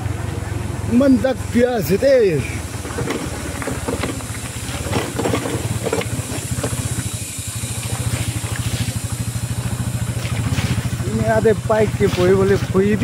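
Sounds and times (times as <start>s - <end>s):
bike rattling over ruts: 0.0s - 13.0s
motorcycle engine running: 0.0s - 13.0s.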